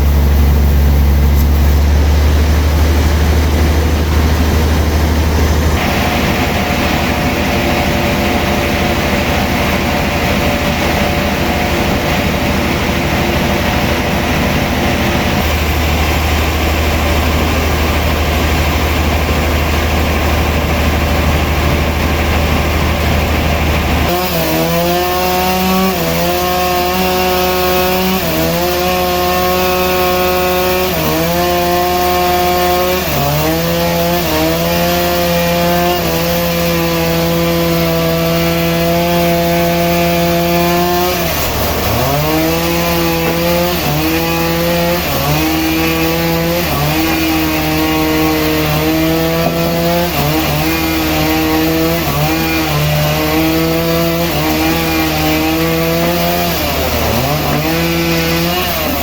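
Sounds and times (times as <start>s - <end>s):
deep engine drone: 0.0s - 59.0s
saw cutting through log: 0.0s - 59.0s.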